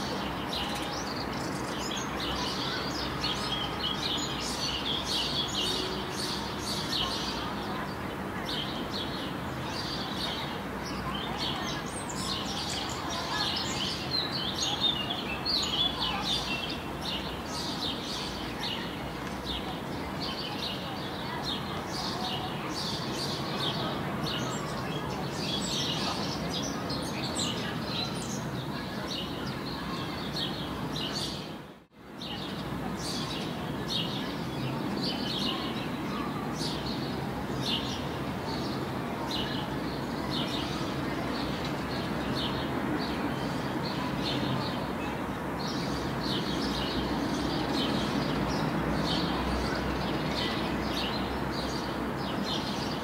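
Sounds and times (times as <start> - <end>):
songbirds chirping and singing: 0.0 - 53.0.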